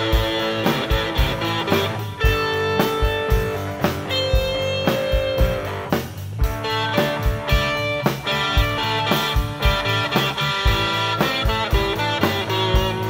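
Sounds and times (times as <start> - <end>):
electric guitar long notes: 0.0 - 13.0
steady drum beat: 0.0 - 13.0.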